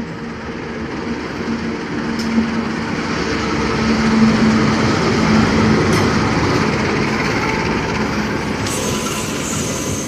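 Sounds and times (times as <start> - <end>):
locomotive engine drone: 0.0 - 10.0
wheels rumbling on rail: 0.0 - 10.0.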